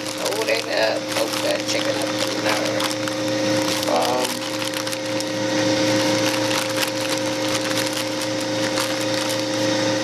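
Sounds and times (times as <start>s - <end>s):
plastic bag crinkling: 0.0s - 10.0s
steady hum: 0.0s - 10.0s.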